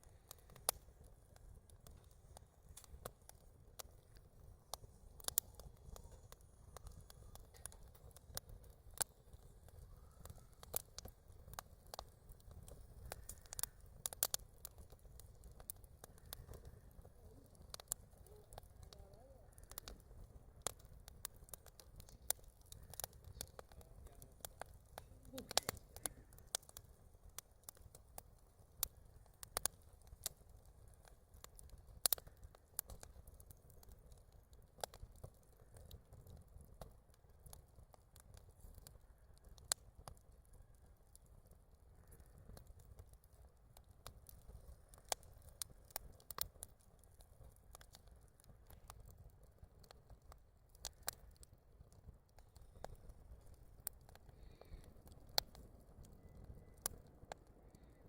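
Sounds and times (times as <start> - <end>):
campfire wood crackling: 0.0 - 58.0.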